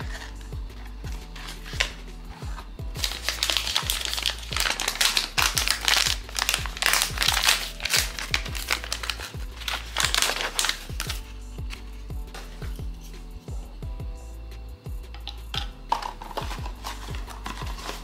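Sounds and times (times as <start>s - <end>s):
packaging crinkling: 0.0s - 12.8s, 15.4s - 18.0s
background music with low beat: 0.0s - 18.0s.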